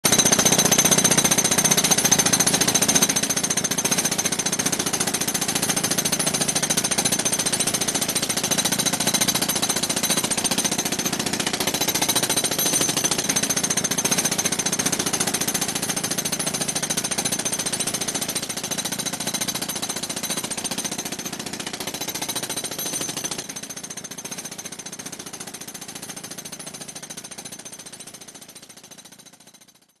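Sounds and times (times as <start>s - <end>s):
jackhammer hammering concrete: 0.0s - 30.0s.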